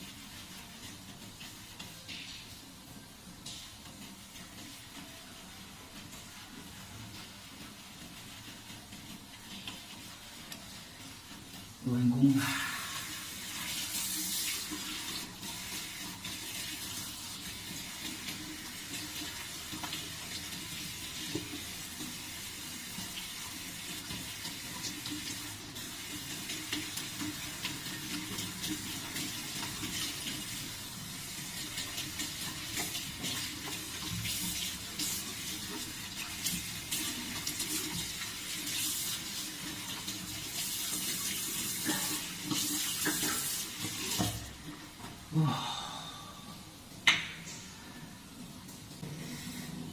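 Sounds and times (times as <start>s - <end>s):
water running from a tap: 0.0s - 45.6s.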